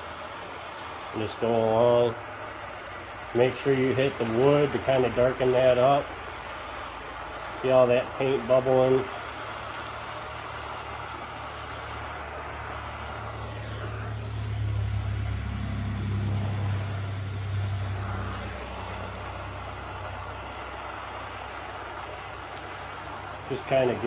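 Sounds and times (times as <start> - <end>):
gas torch hissing: 0.0 - 24.0.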